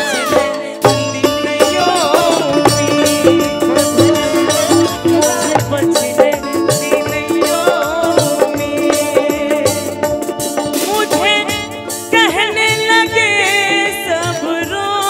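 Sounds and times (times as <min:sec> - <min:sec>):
sustained folk melody: 0:00.0 - 0:14.6
steady percussion beat: 0:00.0 - 0:15.0.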